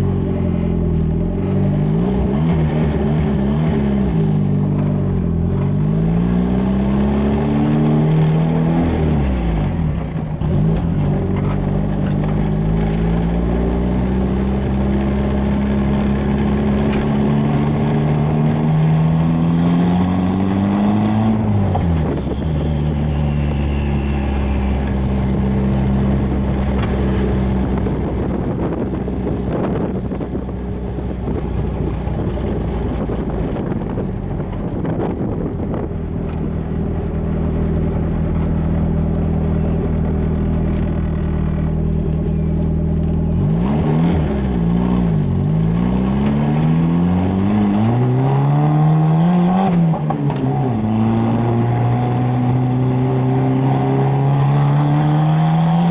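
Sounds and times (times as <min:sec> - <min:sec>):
turbocharged car engine revving: 0:00.0 - 0:55.9.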